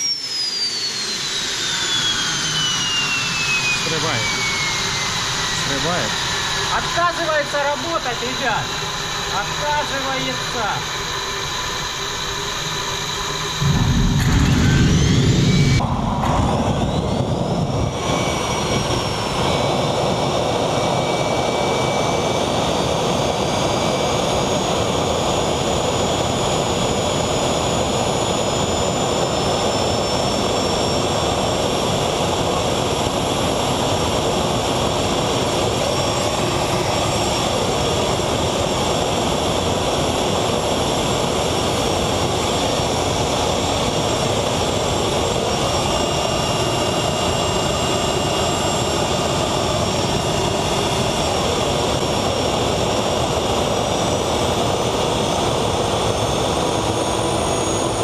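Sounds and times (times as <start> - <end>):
turbojet engine whining and roaring: 0.0 - 58.0.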